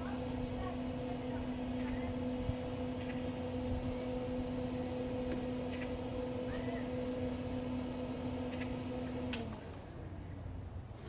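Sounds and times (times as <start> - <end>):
steady low two-tone hum: 0.0 - 10.9.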